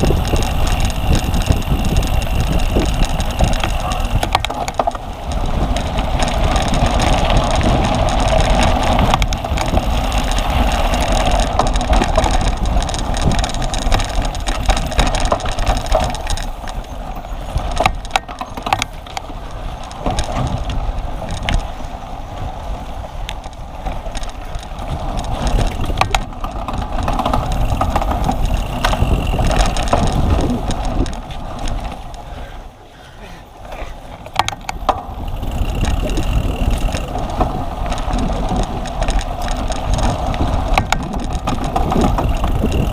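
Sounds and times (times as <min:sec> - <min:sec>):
sharp clicks and rattles: 0:00.0 - 0:21.8, 0:23.2 - 0:32.3, 0:34.2 - 0:42.9
wind buffeting microphone: 0:00.0 - 0:32.7, 0:33.4 - 0:42.9
tyres rumbling over rough ground: 0:00.0 - 0:42.9.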